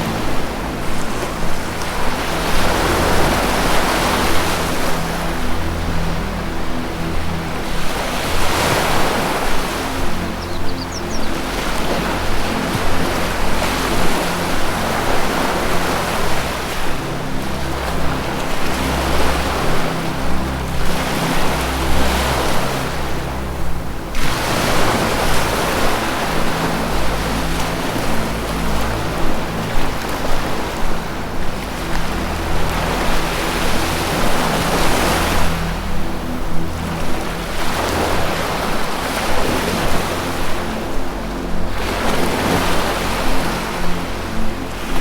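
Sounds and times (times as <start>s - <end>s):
low sustained music tones: 0.0s - 45.0s
ocean waves breaking: 0.0s - 45.0s.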